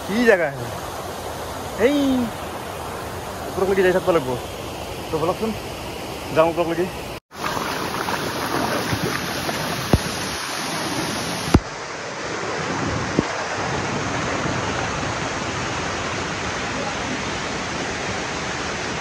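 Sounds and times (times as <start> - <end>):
waterfall splashing over rocks: 0.0 - 5.5, 6.1 - 19.0.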